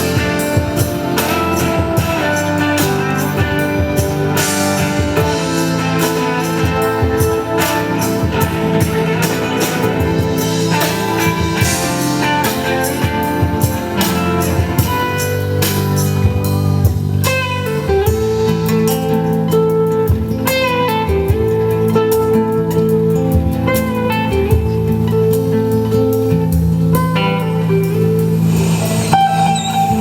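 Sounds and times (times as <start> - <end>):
guitar plucked and strummed: 0.0 - 30.0
steady drum beat: 0.0 - 30.0.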